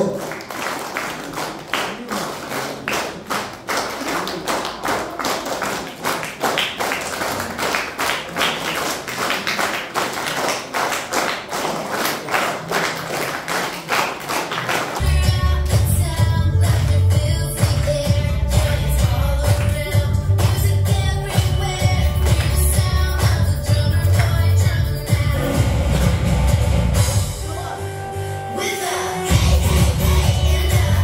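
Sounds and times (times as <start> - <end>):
people clapping: 0.0 - 25.5, 29.3 - 31.0.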